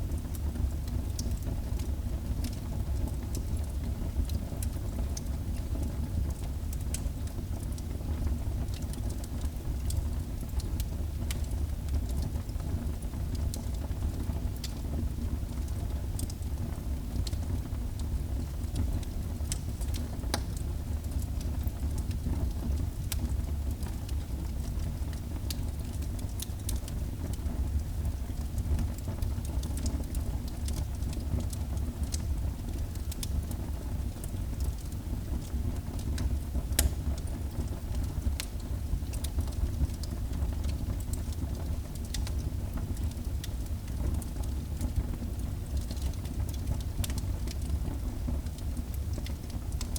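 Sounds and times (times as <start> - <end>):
fireplace fire crackling: 0.1 - 49.9.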